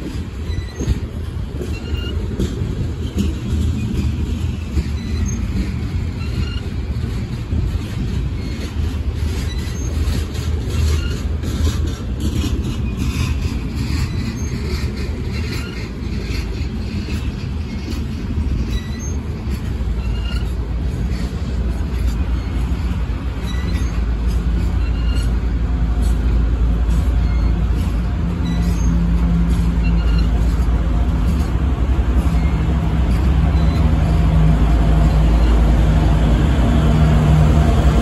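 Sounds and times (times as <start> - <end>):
diesel locomotive engine drone: 0.0 - 38.0
train wheels rumbling on rails: 0.0 - 38.0
wheels squealing: 0.0 - 38.0.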